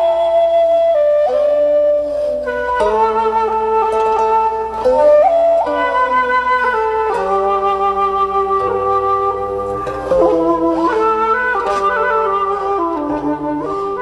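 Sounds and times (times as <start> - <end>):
flute-like melody: 0.0 - 14.0.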